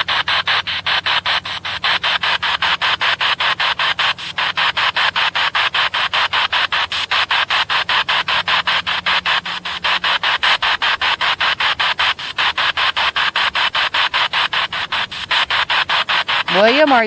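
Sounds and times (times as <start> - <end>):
faint hum: 0.0 - 16.1
chopping radio static: 0.0 - 17.0.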